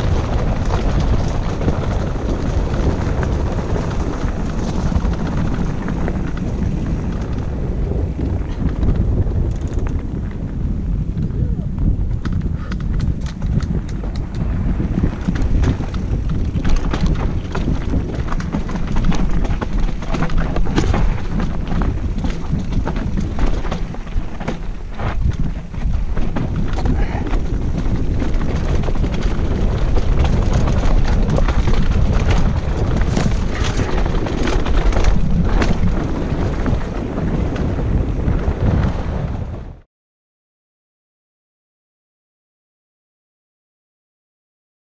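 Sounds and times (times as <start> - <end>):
bike rattling over stones: 0.0 - 39.7
wind buffeting microphone: 0.0 - 39.8.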